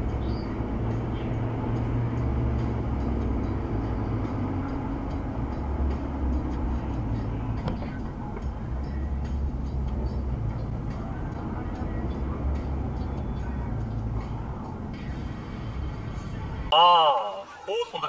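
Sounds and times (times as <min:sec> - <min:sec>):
vehicle driving rumble: 0:00.0 - 0:16.8.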